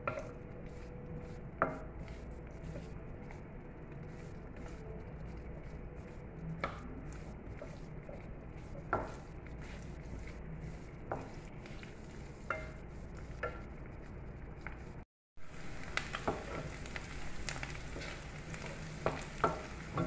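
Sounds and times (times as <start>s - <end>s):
soft sizzle in a pan: 0.0s - 20.0s.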